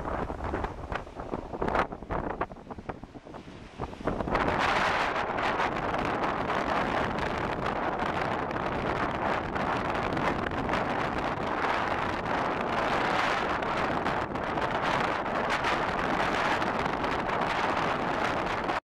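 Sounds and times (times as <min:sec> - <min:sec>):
strong wind on microphone: 0:00.0 - 0:18.8.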